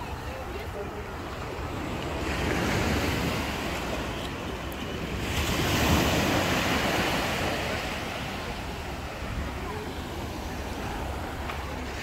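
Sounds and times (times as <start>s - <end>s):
small waves breaking on shore: 0.0s - 12.0s.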